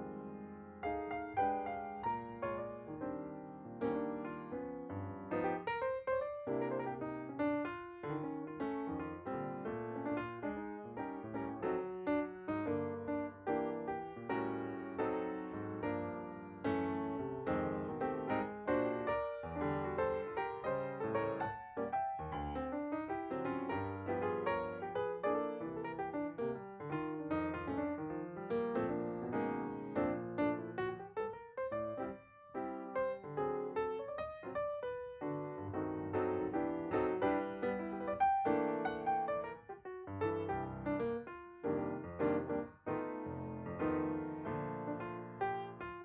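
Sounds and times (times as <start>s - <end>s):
gentle piano music: 0.0s - 46.0s.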